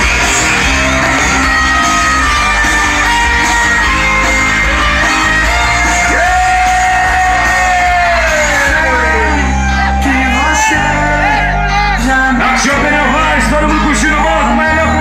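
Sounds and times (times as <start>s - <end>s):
crowd shouting: 0.0s - 15.0s
heavy bass: 0.0s - 15.0s
loud dance music: 0.0s - 15.0s
person singing: 0.0s - 15.0s.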